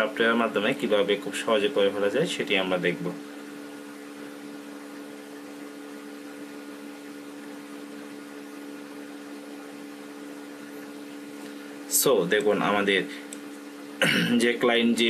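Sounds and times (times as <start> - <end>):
low steady hum with hiss: 0.0 - 15.0.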